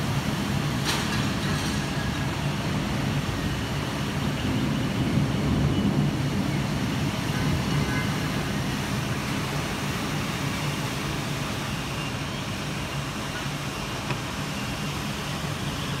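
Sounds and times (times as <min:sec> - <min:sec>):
heavy rain: 0:00.0 - 0:16.0
traffic on wet roads: 0:00.0 - 0:16.0.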